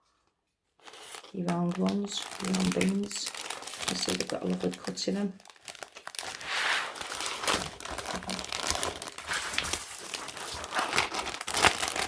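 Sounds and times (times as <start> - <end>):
plastic bags crinkling: 0.8 - 12.0.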